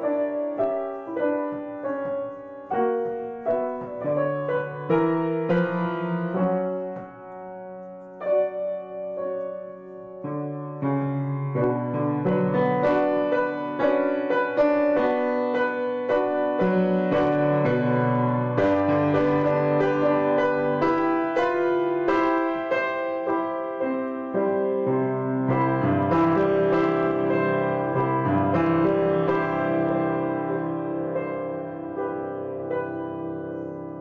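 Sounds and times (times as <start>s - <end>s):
grand piano playing: 0.0s - 34.0s.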